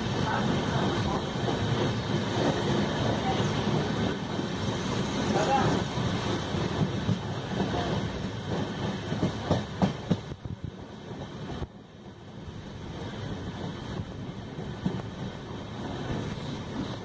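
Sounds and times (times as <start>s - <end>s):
train running gear rumble: 0.0s - 17.0s
train wheels clacking over rail joints: 0.0s - 17.0s.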